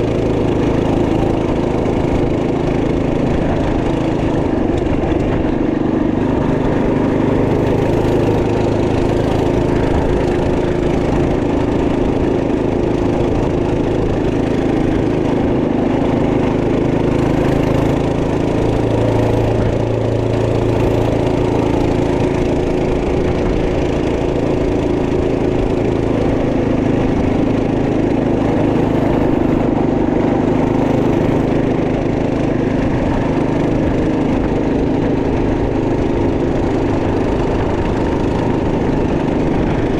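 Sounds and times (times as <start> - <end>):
minibike engine running: 0.0 - 39.9.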